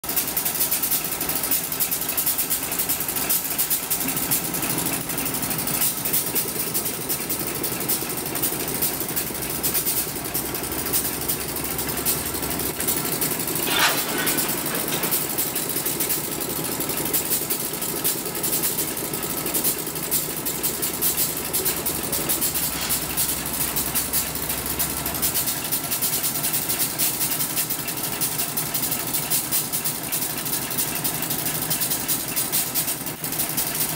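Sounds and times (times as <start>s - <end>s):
diesel locomotive engine idling: 0.0s - 33.9s.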